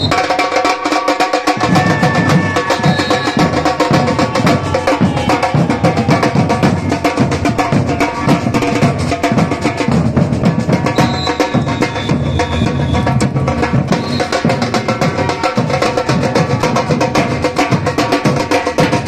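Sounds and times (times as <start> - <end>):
samba drums playing: 0.0 - 19.0.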